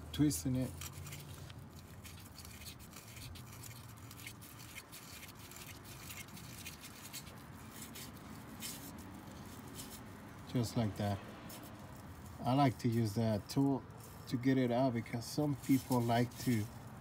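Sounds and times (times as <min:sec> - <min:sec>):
hand scratching and rubbing filter: 0:00.0 - 0:17.0.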